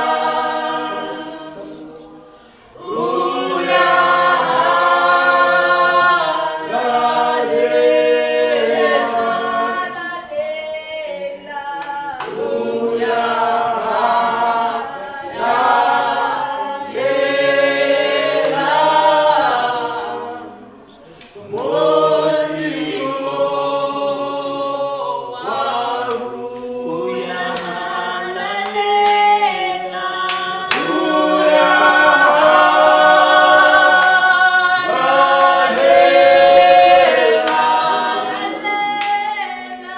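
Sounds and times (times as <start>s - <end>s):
congregation singing unaccompanied: 0.0s - 39.9s.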